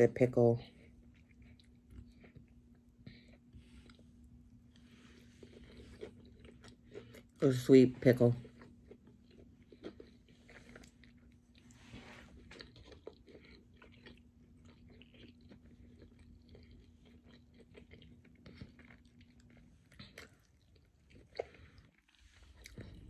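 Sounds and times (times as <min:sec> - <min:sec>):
faint steady hum: 0:00.0 - 0:23.0
chewing food: 0:00.4 - 0:23.0.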